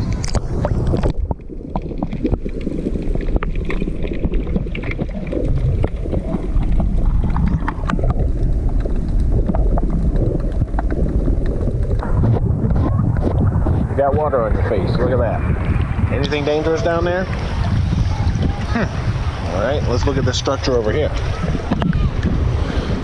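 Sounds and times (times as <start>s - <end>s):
muffled underwater rushing: 0.0s - 23.0s
small underwater clicks and crackles: 0.0s - 23.0s.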